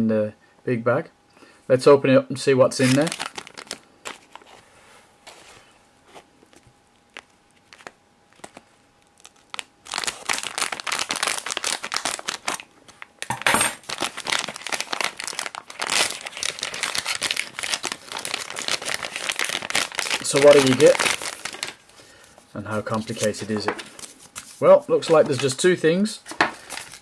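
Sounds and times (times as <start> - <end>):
plastic packaging crinkling: 2.7 - 4.7, 6.4 - 27.0.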